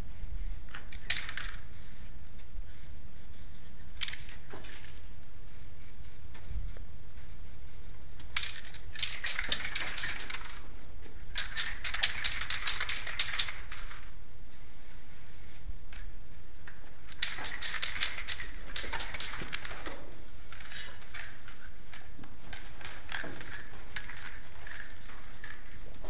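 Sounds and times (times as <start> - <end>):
spray can rattling: 0.1 - 2.1, 2.7 - 6.5, 7.2 - 26.0.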